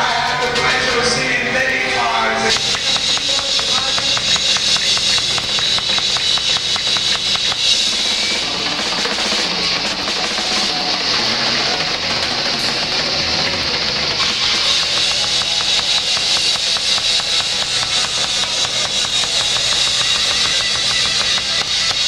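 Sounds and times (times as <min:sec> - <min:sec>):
rock band playing: 0:00.0 - 0:22.0
fast drum hits: 0:00.4 - 0:22.0.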